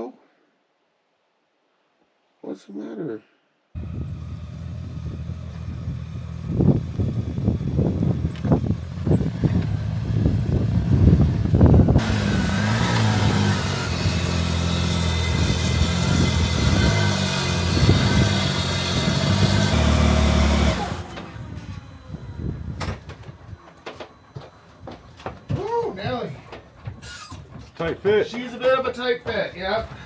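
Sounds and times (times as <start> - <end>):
truck engine running: 3.8 - 28.4.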